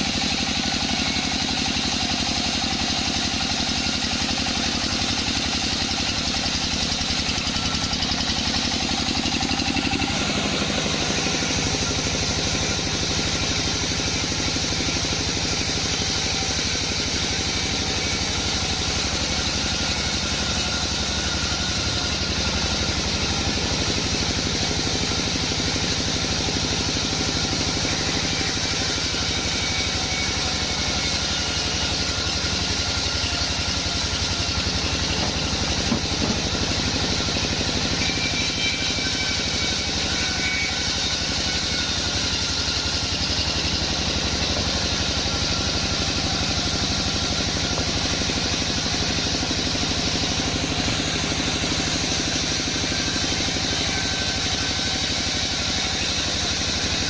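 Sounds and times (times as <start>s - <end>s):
band saw machinery droning: 0.0s - 57.0s.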